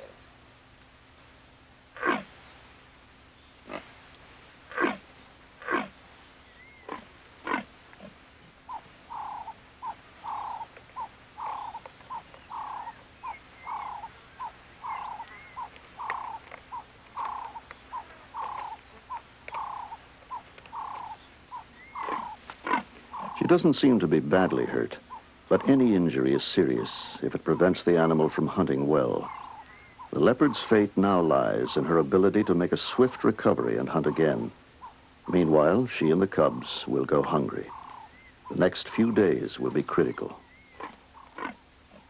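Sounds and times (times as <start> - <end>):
leopard calling: 1.9 - 2.3, 4.7 - 42.0.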